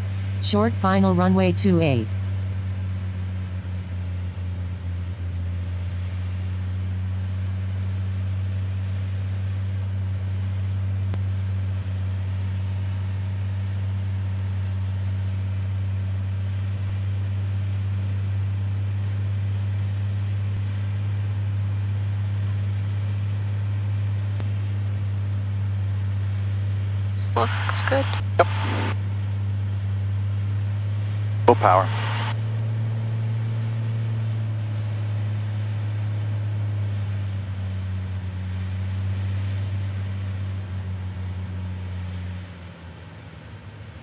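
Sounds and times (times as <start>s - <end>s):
aircraft engine and propeller drone: 0.0s - 44.0s.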